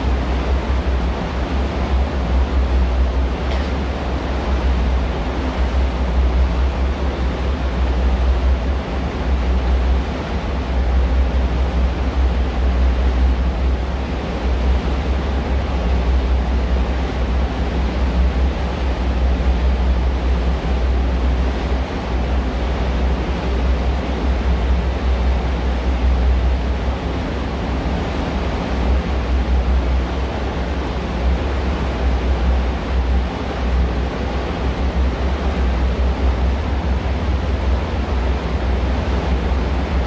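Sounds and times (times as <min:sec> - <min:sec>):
low boat engine drone: 0:00.0 - 0:40.0.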